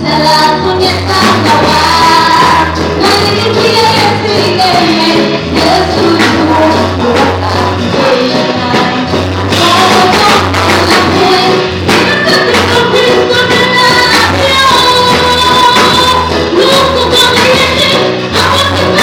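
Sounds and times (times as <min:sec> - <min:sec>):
gospel band playing: 0:00.0 - 0:19.0
woman singing into a microphone: 0:00.0 - 0:19.0.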